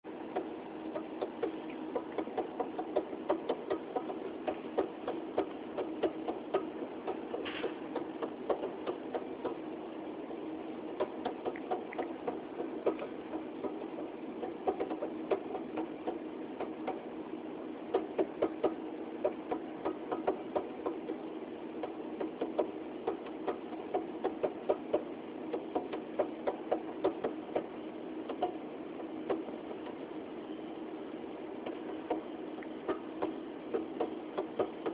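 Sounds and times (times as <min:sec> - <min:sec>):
refrigerator humming: 0:00.1 - 0:34.9
refrigerator clicking and ticking: 0:00.2 - 0:09.8, 0:10.9 - 0:17.1, 0:17.9 - 0:30.0, 0:31.6 - 0:34.9.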